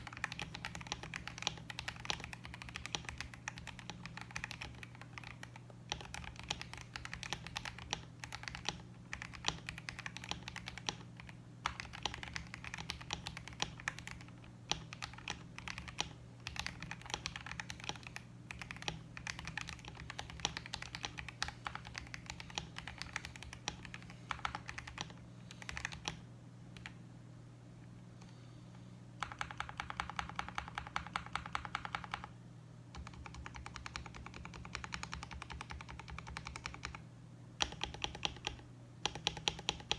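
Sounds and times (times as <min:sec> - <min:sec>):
mechanical keyboard typing: 0:00.0 - 0:26.2, 0:29.2 - 0:32.3, 0:32.9 - 0:37.0, 0:37.6 - 0:39.9.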